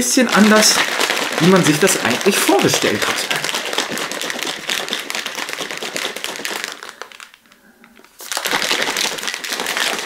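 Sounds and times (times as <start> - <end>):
ice cubes rattling in shaker bottle: 0.0 - 10.0.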